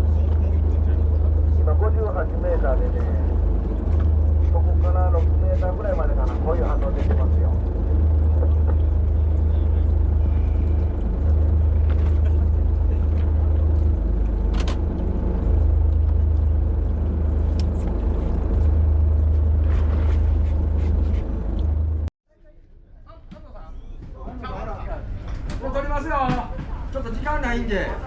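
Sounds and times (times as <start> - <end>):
boat engine rumbling: 0.0 - 28.0.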